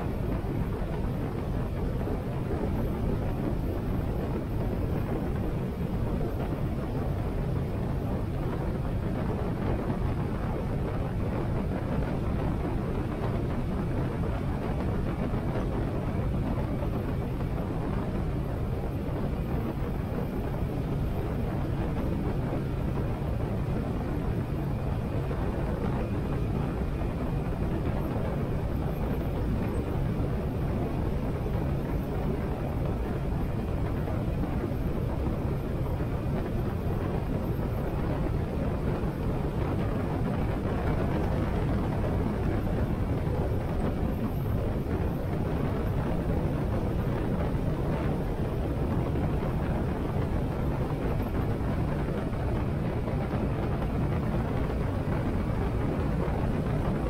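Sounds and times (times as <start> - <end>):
wind rushing over camera: 0.0 - 57.0.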